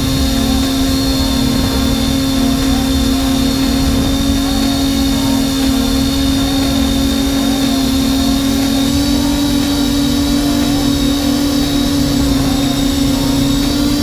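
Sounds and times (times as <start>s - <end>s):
drone motors whining: 0.0s - 14.0s
low rumble: 0.0s - 14.0s.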